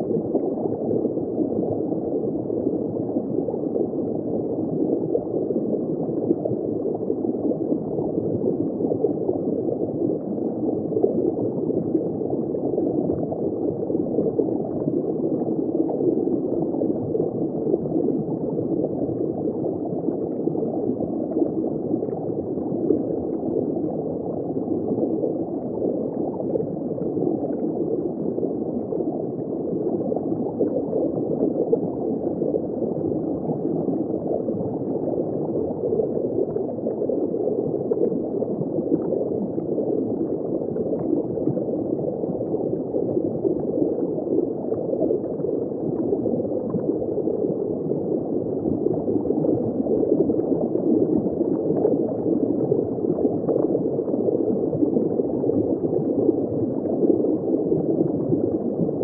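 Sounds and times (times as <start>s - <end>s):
muffled underwater bubbling: 0.0s - 59.0s.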